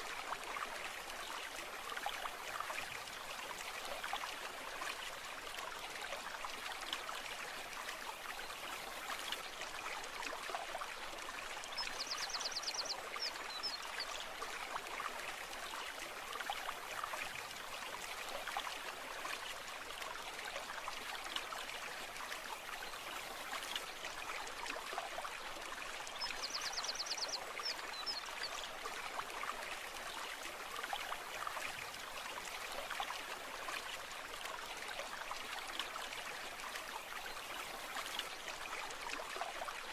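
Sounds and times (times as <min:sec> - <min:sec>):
brook water flowing: 0:00.0 - 0:39.9.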